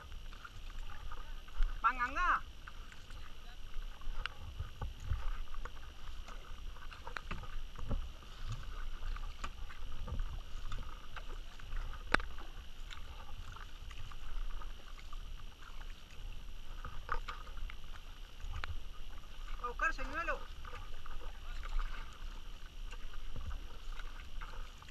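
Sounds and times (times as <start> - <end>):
paddle splashing in water: 0.0 - 24.9.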